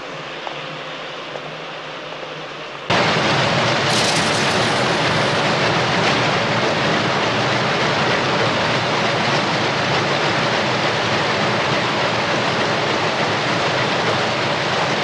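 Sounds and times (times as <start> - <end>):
textile machinery clattering: 2.9 - 15.0.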